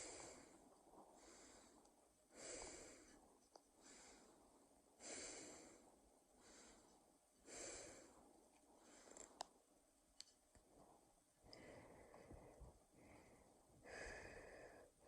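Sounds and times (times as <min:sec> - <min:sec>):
person breathing heavily: 0:00.0 - 0:09.4, 0:11.4 - 0:15.0.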